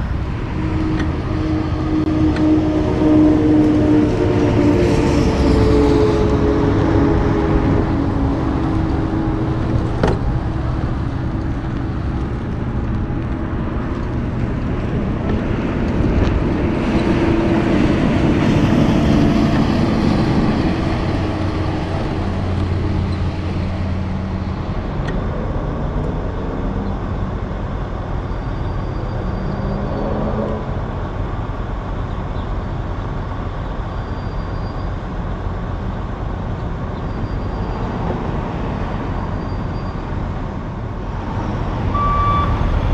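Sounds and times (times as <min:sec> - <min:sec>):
highway traffic passing: 0:00.0 - 0:42.9.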